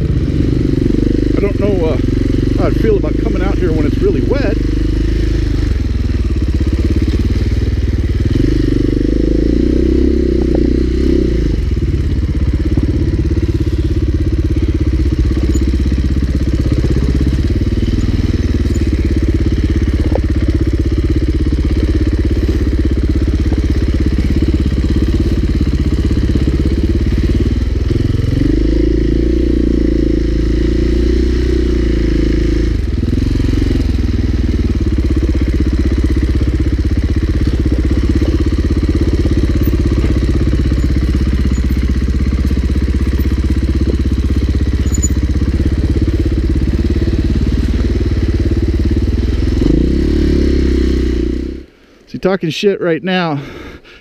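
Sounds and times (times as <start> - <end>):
dirt bike engine running: 0.0 - 51.7.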